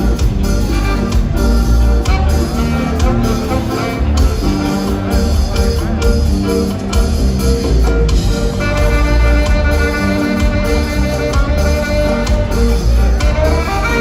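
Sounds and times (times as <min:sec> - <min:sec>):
horn melody: 0:00.0 - 0:14.0
ska band music: 0:00.0 - 0:14.0
walking bass: 0:00.0 - 0:14.0.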